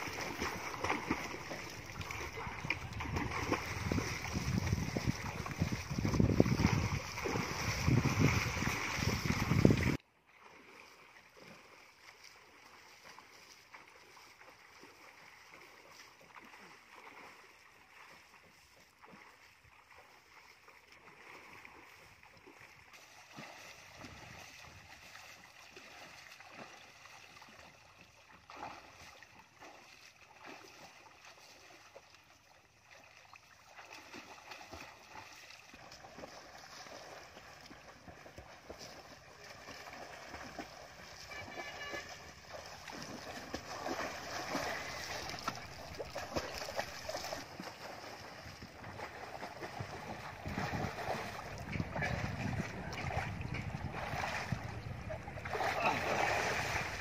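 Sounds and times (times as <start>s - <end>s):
loud pool water splashing: 0.0s - 57.0s
water lapping: 0.0s - 57.0s.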